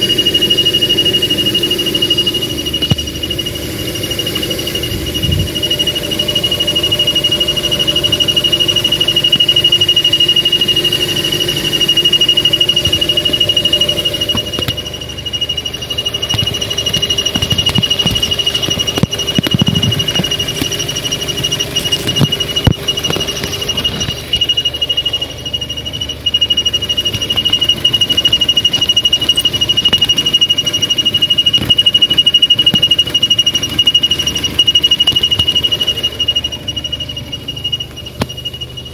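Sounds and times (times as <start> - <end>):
high-pitched whistle: 0.0 - 38.9.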